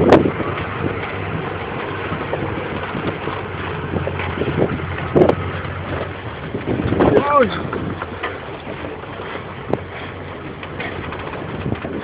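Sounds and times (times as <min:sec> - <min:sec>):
car engine and road noise: 0:00.0 - 0:12.0
wind buffeting microphone: 0:00.0 - 0:12.0.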